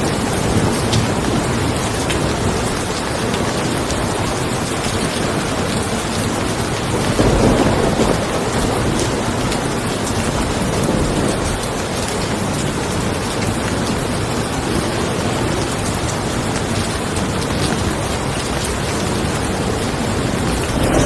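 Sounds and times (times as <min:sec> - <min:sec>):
thunder rolling: 0:00.0 - 0:13.2, 0:16.5 - 0:21.0
rain pattering on a car: 0:00.0 - 0:21.0.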